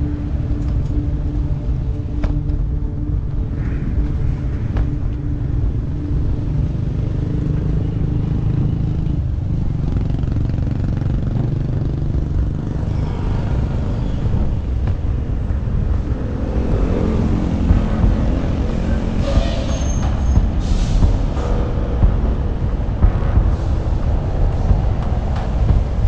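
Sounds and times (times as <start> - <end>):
passing traffic engines: 0.0 - 26.0
wind rumbling on microphone: 0.0 - 26.0.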